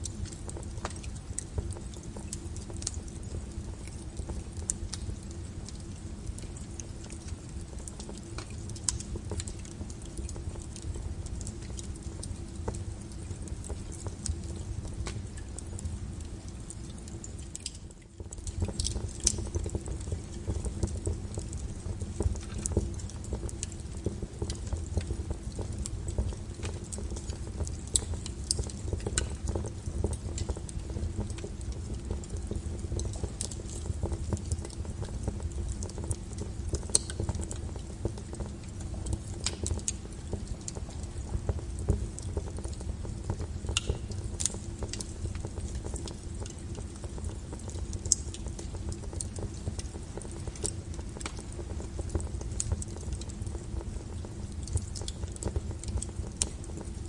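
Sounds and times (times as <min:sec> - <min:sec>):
fire flames rumbling: 0:00.0 - 0:57.0
wood crackling and popping: 0:00.0 - 0:57.0.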